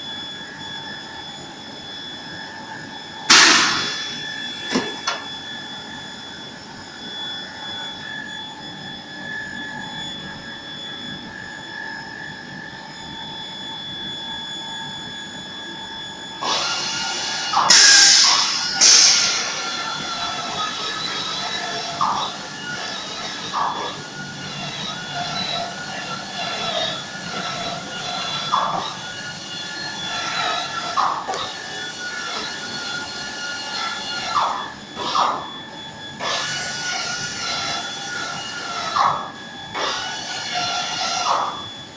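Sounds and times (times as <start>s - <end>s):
pneumatic press machine whine: 0.0s - 41.9s.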